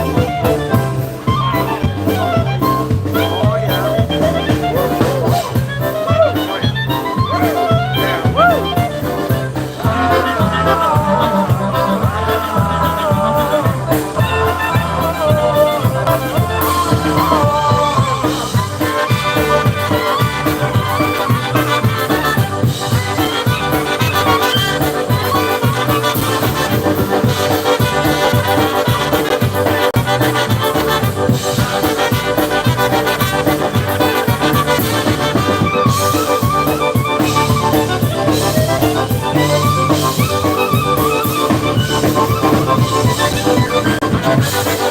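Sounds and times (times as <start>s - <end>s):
polka band playing: 0.0s - 44.9s.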